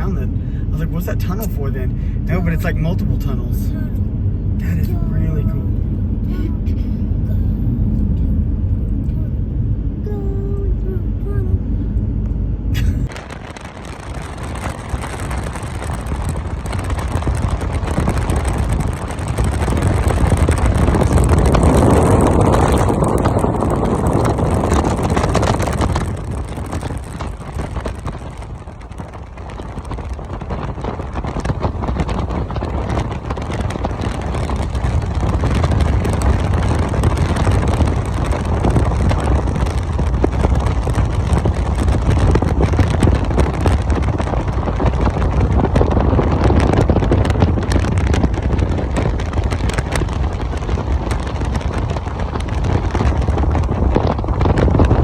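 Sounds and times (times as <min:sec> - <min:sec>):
car road noise: 0:00.0 - 0:55.0.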